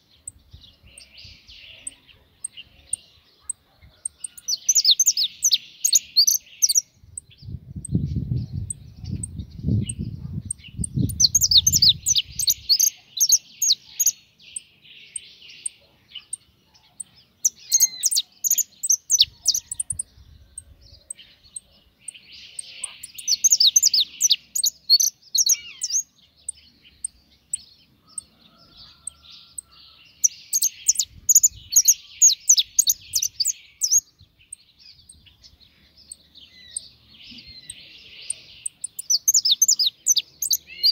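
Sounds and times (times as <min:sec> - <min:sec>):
goldfinch twittering song: 0:00.0 - 0:40.9.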